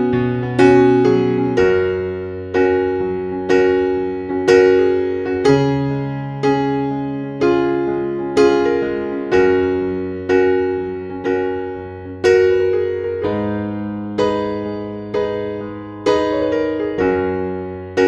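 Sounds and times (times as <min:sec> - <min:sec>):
electric piano chords: 0:00.0 - 0:18.0.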